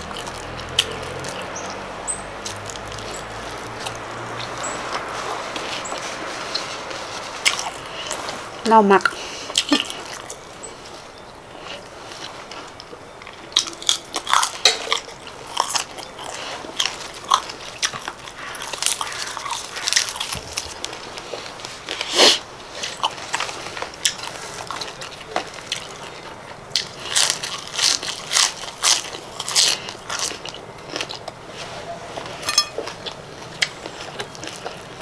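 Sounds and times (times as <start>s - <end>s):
person crunching raw vegetables: 0.0s - 35.0s.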